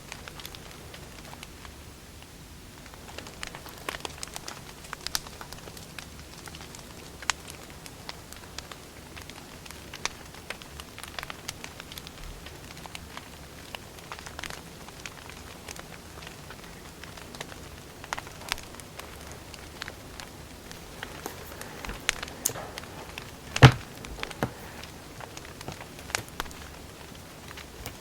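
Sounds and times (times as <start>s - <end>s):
wood fire crackling and popping: 0.1s - 28.0s.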